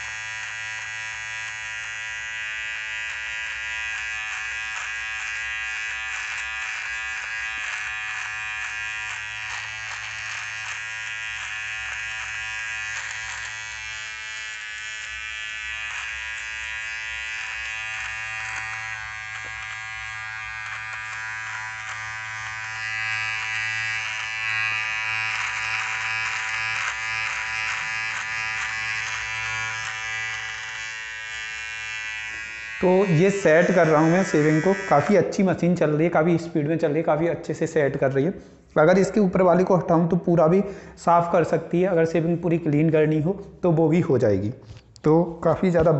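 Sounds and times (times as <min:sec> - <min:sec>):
beard trimmer buzzing: 0:00.0 - 0:44.8.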